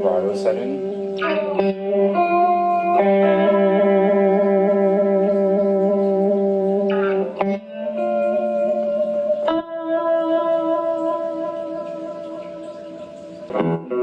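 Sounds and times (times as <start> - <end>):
clean electric guitar with vibrato: 0.0 - 14.0.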